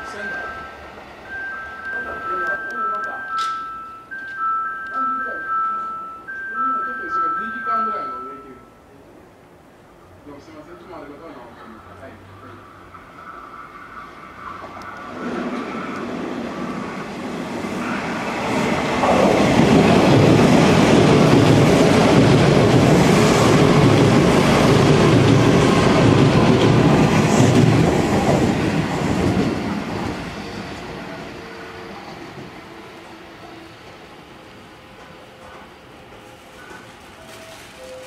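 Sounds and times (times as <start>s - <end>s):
electric train passing: 0.0s - 38.0s.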